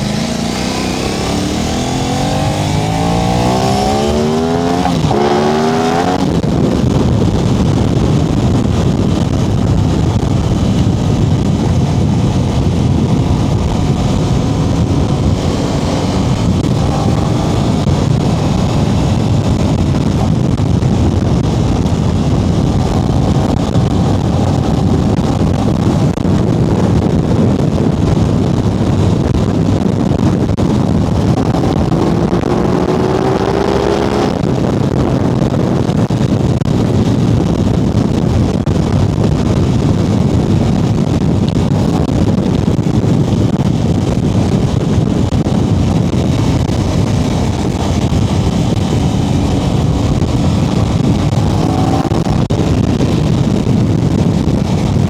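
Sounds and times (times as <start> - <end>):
motorcycle engine running: 0.0 - 55.0
wind and road rush: 0.0 - 55.0.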